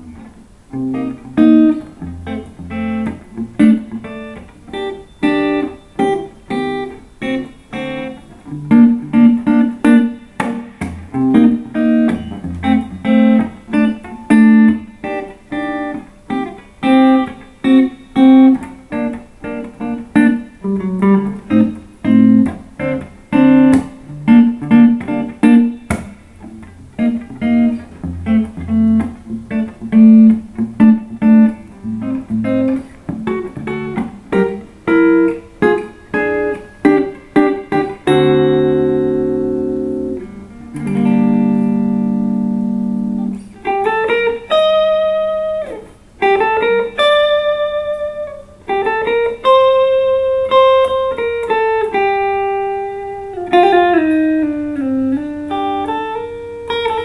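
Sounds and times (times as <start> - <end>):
clean electric guitar playing: 0.0 - 57.0.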